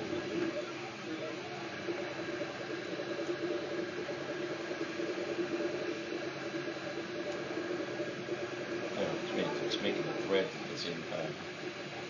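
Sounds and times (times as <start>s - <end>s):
cooling fan hiss: 0.0s - 12.0s
stepper motors humming: 0.0s - 12.0s.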